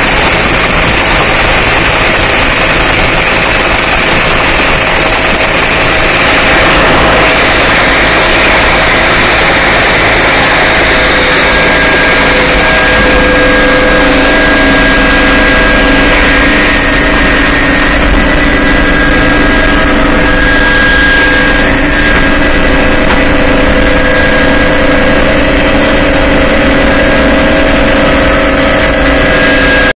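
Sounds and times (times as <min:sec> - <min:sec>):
helicopter engine and rotor: 0:00.0 - 0:30.0.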